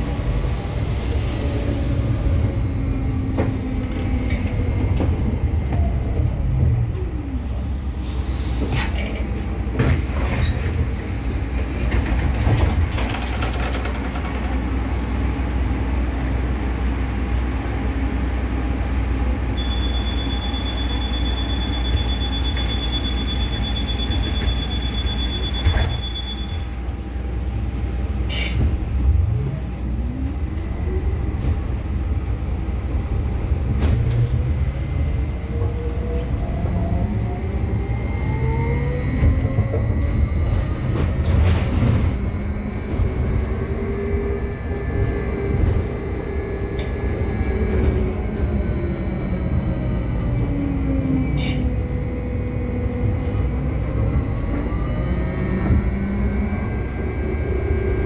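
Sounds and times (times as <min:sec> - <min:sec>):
trolleybus electric drive whining: 0:00.0 - 0:58.0.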